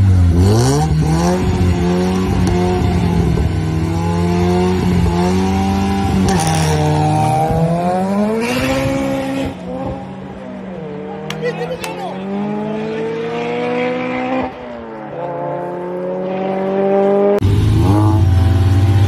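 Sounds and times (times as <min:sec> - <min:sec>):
car engines revving through gears: 0:00.0 - 0:19.0.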